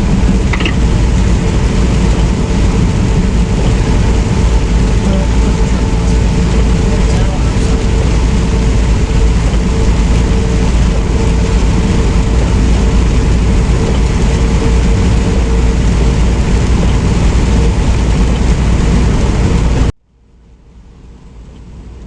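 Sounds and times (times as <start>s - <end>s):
truck road and engine noise: 0.0s - 19.9s.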